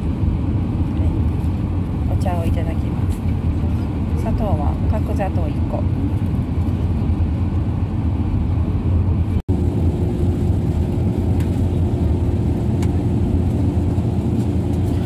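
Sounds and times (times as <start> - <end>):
coach engine and road rumble: 0.0 - 15.0.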